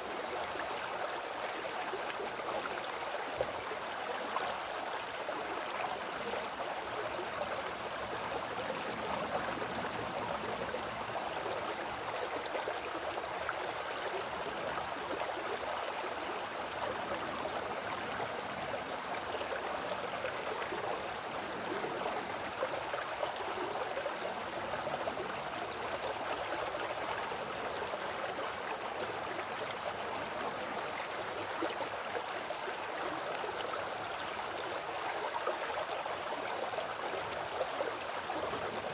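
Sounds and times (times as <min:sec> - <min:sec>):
creek babbling over rocks: 0:00.0 - 0:38.9.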